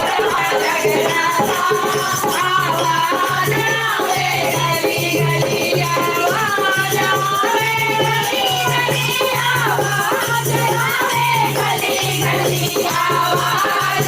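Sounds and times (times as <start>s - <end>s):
person singing devotional song: 0.0s - 14.0s
rattling hand percussion: 0.0s - 14.0s.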